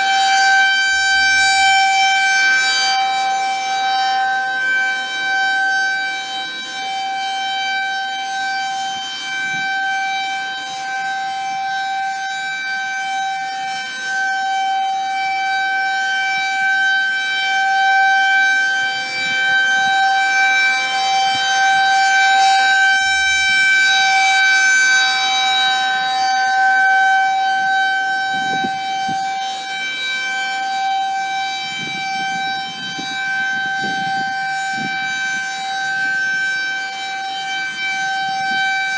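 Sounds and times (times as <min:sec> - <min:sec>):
rotating siren tone: 0:00.0 - 0:38.9.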